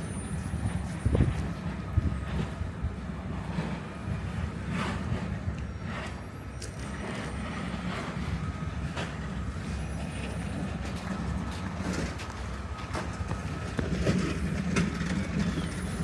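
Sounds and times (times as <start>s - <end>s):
low rumble of passing vehicle: 0.0s - 16.0s.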